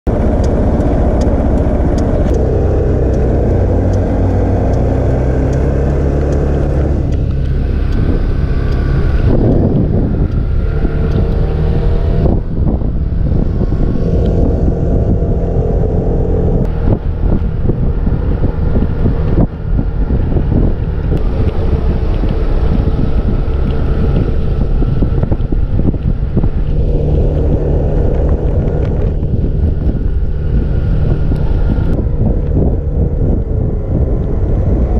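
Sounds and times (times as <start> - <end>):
wind buffeting microphone: 0.1 - 34.9.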